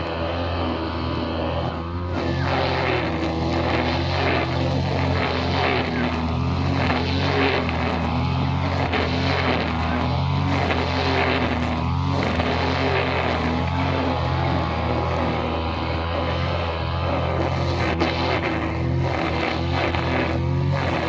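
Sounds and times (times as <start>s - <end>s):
small two-stroke engine running: 0.0s - 21.0s.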